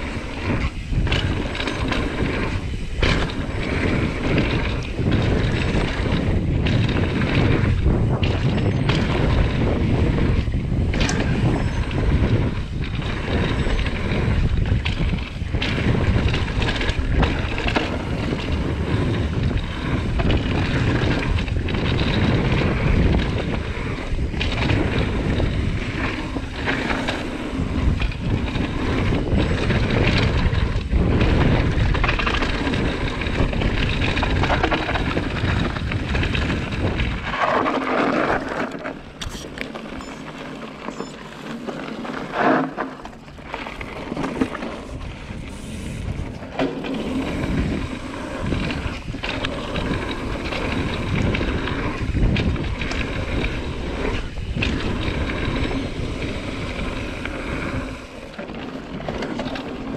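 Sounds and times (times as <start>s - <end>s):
bike clattering over dirt trail: 0.0s - 59.9s
bike rolling on gravel: 0.0s - 59.9s
wind buffeting microphone: 0.0s - 59.9s.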